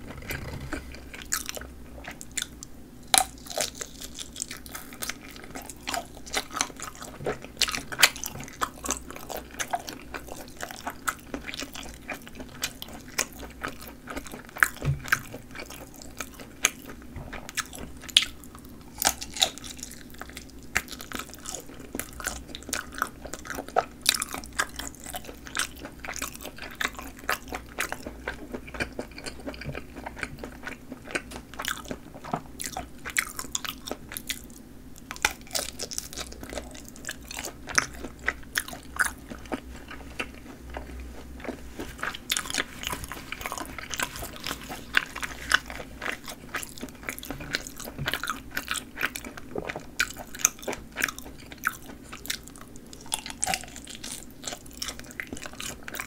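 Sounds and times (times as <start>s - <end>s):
sausage being bitten and chewed: 0.1s - 56.0s.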